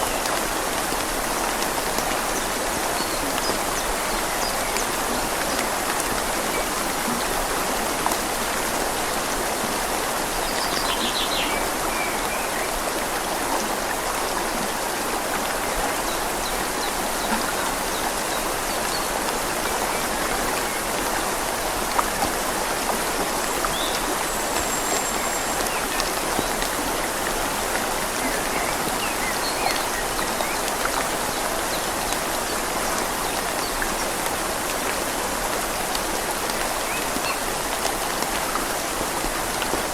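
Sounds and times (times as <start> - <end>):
rain falling on leaves: 0.0 - 39.9
river flowing: 0.0 - 39.9.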